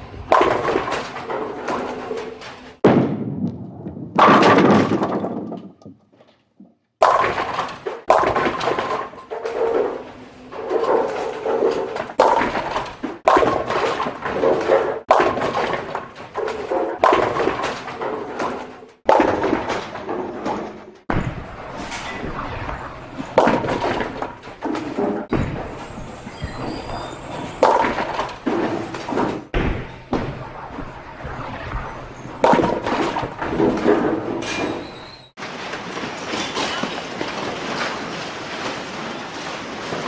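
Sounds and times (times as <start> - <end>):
bowling ball rumbling: 0.0 - 35.2
bowling ball crashing into pins: 0.2 - 6.2, 7.0 - 35.1.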